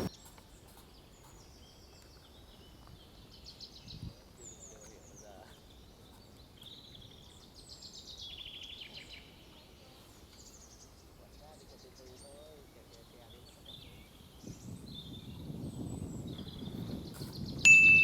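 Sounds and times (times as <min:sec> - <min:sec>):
songbirds chirping and trilling: 0:00.0 - 0:18.0.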